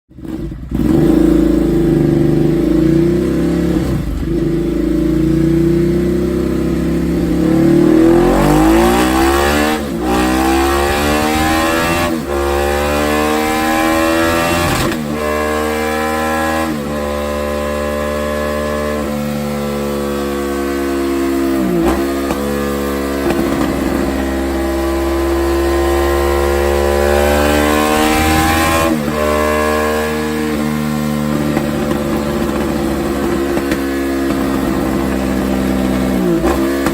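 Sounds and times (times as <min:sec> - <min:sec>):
motorcycle engine revving: 0:00.1 - 0:36.9.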